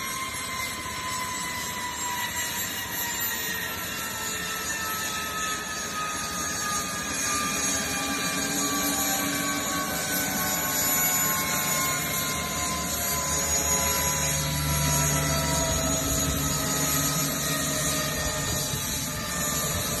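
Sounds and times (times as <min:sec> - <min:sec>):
helicopter turbine winding down: 0:00.0 - 0:20.0.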